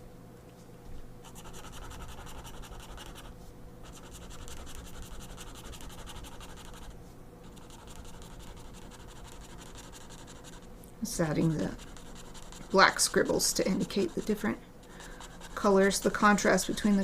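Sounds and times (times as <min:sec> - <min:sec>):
pen scratching on paper: 0:01.2 - 0:10.7, 0:11.3 - 0:17.0.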